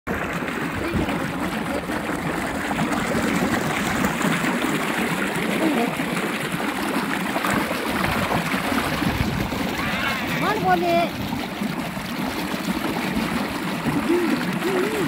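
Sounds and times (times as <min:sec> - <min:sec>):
water gushing in a tank: 0:00.1 - 0:15.0.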